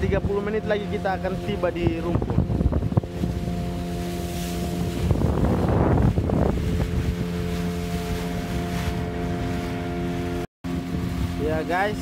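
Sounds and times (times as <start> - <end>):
boat motor running: 0.0 - 12.0
water rushing past hull: 0.0 - 12.0
wind buffeting microphone: 0.0 - 12.0.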